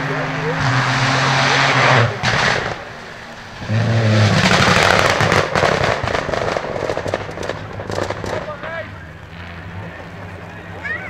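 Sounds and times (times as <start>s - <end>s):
rally car engine at full throttle: 0.0s - 11.0s
exhaust pops and crackles: 0.5s - 10.9s.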